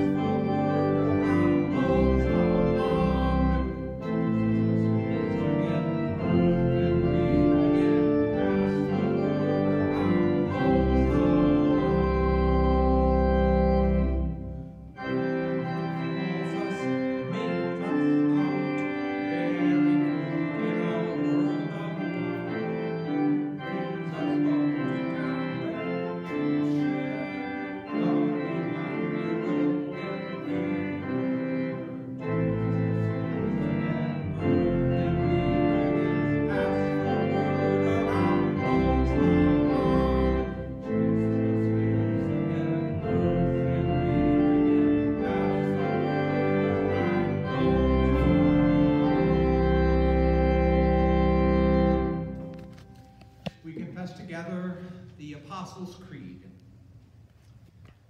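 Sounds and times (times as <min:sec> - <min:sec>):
deep organ pedal bass notes: 0:00.0 - 0:54.5
church organ playing a hymn: 0:00.0 - 0:56.4.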